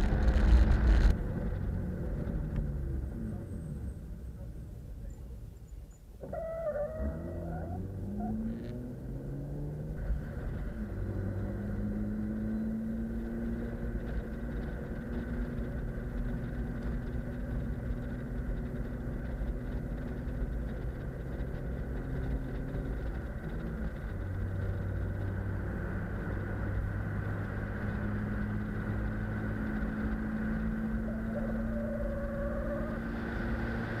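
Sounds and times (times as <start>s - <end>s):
tyre and wind noise: 0.0s - 3.3s, 6.2s - 34.0s
car engine cruising: 0.0s - 34.0s.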